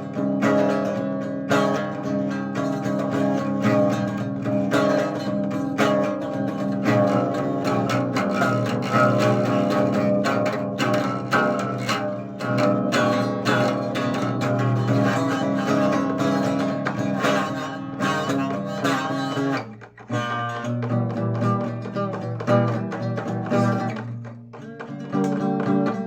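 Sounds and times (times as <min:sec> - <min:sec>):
guitar plucked and strummed: 0:00.0 - 0:26.0.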